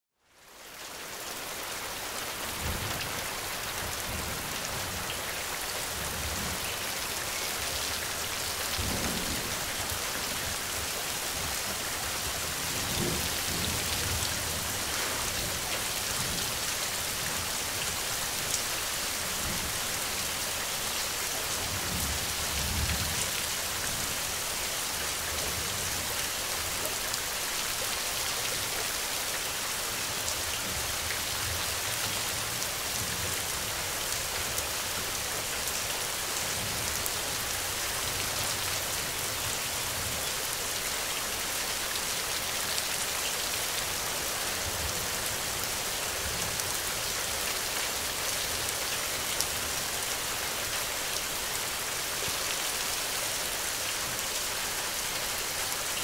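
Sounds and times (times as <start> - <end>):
steady rain falling: 0.1 - 56.0.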